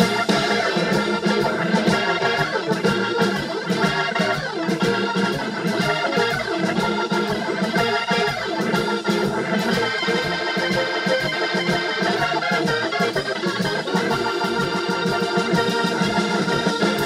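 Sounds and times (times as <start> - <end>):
drum beat: 0.0 - 17.0
electric guitar: 0.0 - 17.0
organ chords: 0.0 - 17.0.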